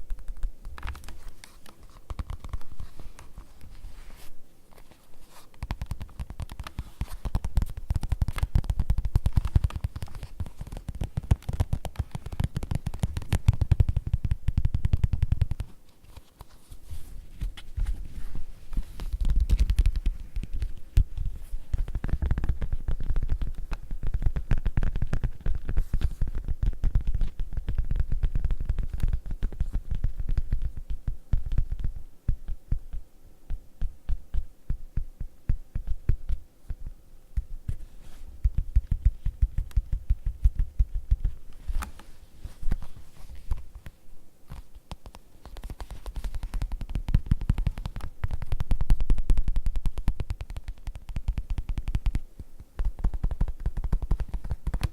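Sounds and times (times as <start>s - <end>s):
rapid tapping on leather: 0.0s - 3.8s, 5.4s - 16.4s, 17.4s - 54.9s.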